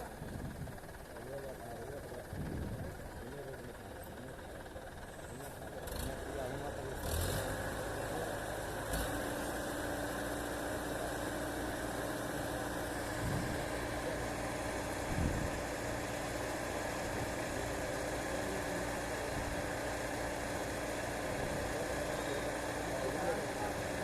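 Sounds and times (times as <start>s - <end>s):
earthmover engine idling: 0.0s - 24.0s.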